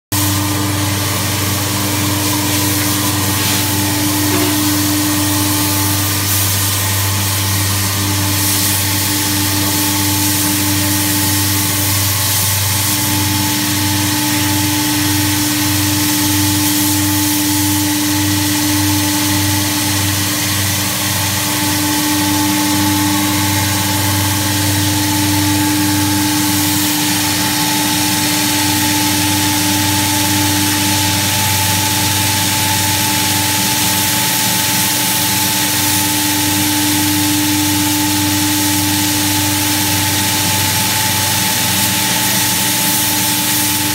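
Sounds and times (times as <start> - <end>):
router machine humming and whining: 0.2 - 43.9.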